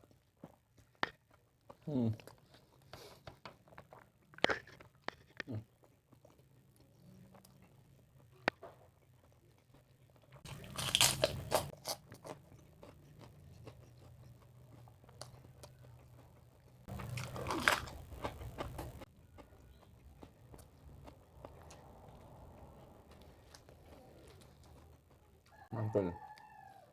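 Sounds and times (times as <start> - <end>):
crunching of fried food being chewed: 0.0 - 26.9.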